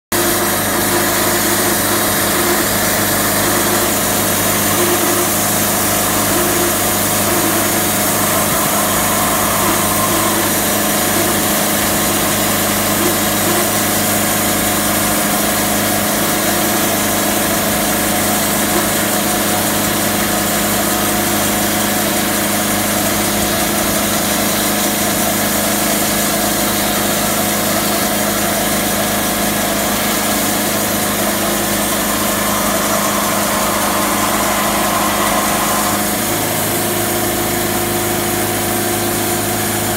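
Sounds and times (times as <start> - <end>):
band sawmill sawing a log: 0.1 - 39.9.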